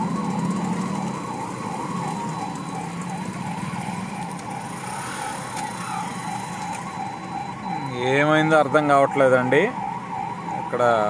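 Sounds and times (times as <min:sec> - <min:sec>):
ambulance siren wavering: 0:00.0 - 0:11.0
traffic hum: 0:00.0 - 0:11.0.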